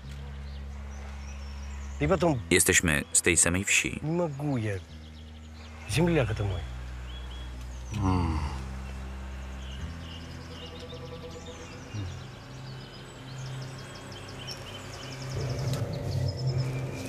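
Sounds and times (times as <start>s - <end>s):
birds chirping and trilling: 0.0s - 17.0s
low musical drone: 0.0s - 17.0s.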